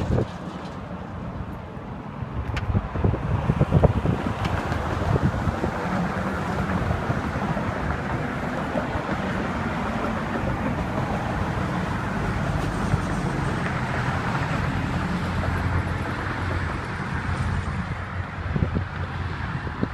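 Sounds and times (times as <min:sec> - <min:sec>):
broad rushing noise: 0:00.0 - 0:19.9.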